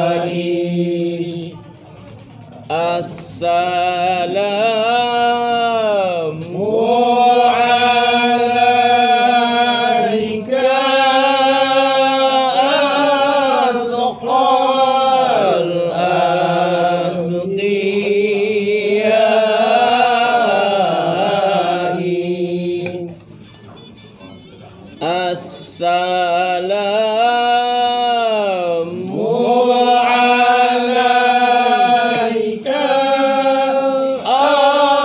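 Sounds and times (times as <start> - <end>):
men chanting devotional melody: 0.0 - 1.8, 2.6 - 35.0.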